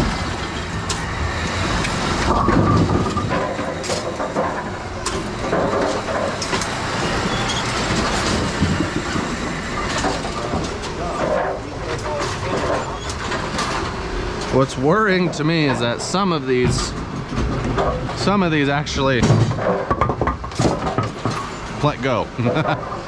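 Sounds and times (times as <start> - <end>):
knocks and clanks: 0.0 - 23.0
pinsetter mechanical clatter: 0.0 - 23.0.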